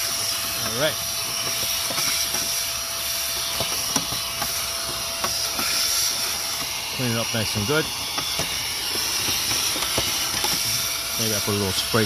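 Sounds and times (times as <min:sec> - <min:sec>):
handheld vacuum cleaner hissing: 0:00.0 - 0:12.0.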